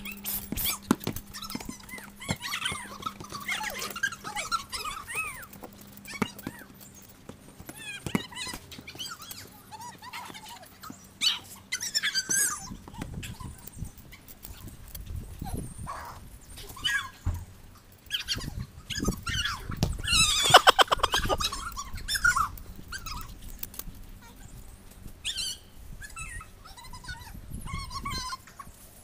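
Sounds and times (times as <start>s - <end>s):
squeaky high-pitched cries: 0.0s - 6.7s, 7.7s - 14.7s, 15.4s - 17.2s, 18.0s - 23.3s, 25.2s - 28.8s.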